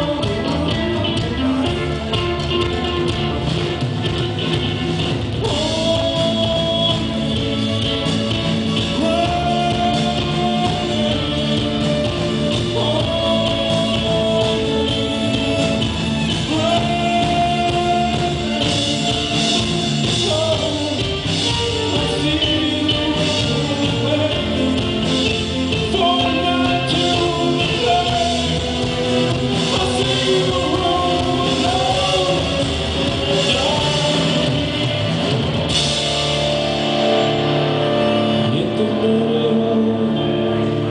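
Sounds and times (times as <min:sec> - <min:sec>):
male lead vocal: 0:00.0 - 0:36.0, 0:37.2 - 0:40.9
drums: 0:00.0 - 0:40.9
electric guitar: 0:00.0 - 0:40.9.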